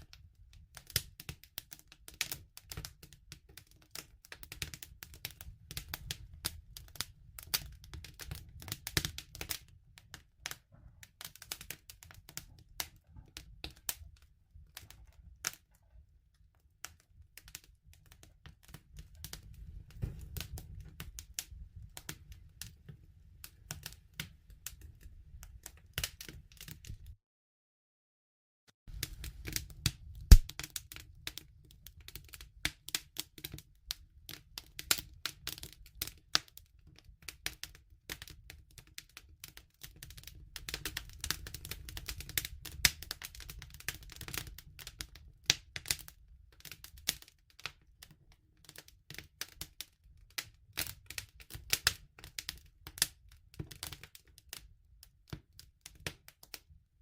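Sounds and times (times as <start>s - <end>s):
wood fire crackling: 0.0s - 27.2s, 28.9s - 56.7s.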